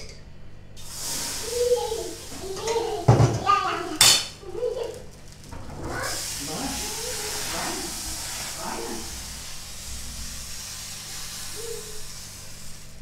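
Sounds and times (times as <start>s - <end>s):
batter sizzling in hot pan: 0.8s - 13.0s.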